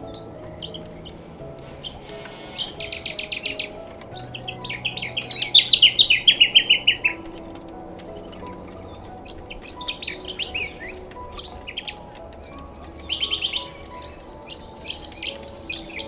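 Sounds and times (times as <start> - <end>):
soft background music: 0.0 - 16.0
wild birds calling: 0.0 - 16.0.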